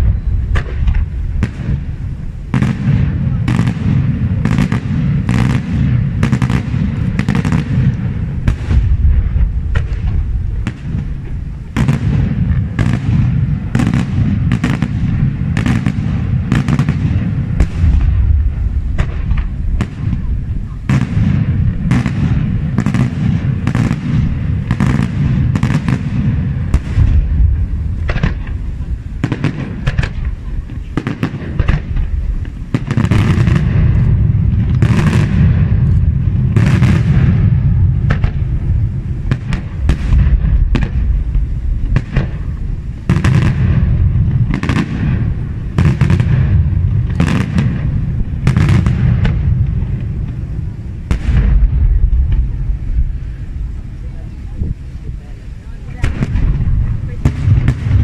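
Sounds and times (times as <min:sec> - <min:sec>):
fireworks bursting in sharp bangs: 0:00.0 - 0:58.0
low rolling rumble: 0:00.0 - 0:58.0.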